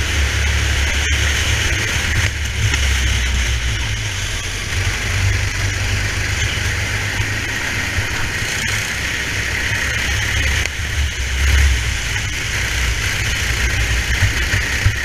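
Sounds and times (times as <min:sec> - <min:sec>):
kart engine running: 0:00.0 - 0:15.0
rushing noise: 0:00.0 - 0:15.0.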